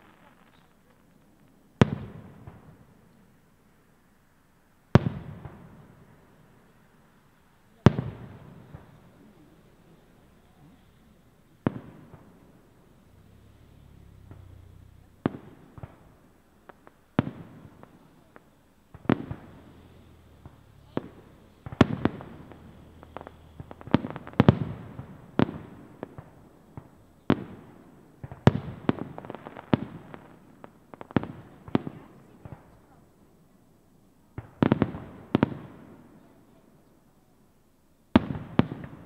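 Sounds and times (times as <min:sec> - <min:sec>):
fireworks bursting with sharp bangs: 0:00.0 - 0:39.0.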